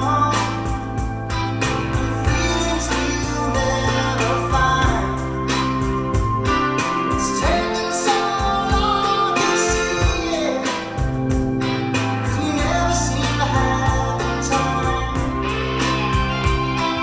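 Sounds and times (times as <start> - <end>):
music with singing and beat: 0.0 - 17.0.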